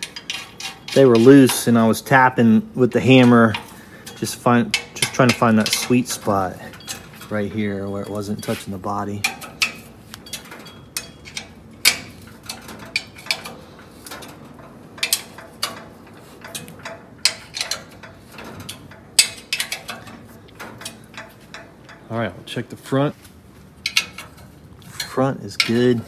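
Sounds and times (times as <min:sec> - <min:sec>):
hand ratchet clicking: 0:00.0 - 0:02.2, 0:03.1 - 0:07.3, 0:09.2 - 0:22.1, 0:23.8 - 0:26.0
loud metal clicks: 0:00.0 - 0:08.6, 0:09.2 - 0:22.1, 0:23.8 - 0:26.0.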